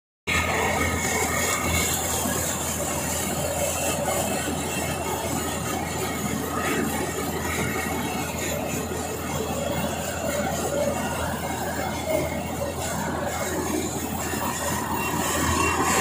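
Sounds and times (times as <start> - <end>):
combine harvester running: 0.3 - 16.0
high machinery whine: 0.3 - 16.0.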